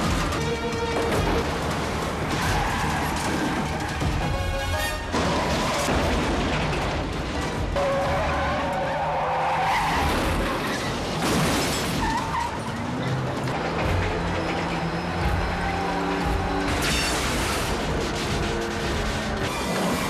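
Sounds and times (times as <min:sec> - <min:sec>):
background music: 0:00.0 - 0:20.0
car engines: 0:00.0 - 0:20.0
tyres skidding: 0:00.0 - 0:20.0.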